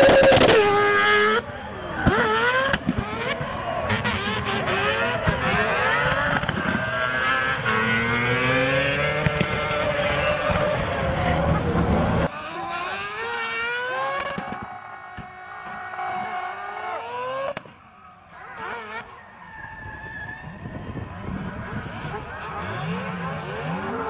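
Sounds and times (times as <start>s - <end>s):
rotary engine revving: 0.0s - 17.7s, 18.5s - 19.6s, 20.2s - 24.0s.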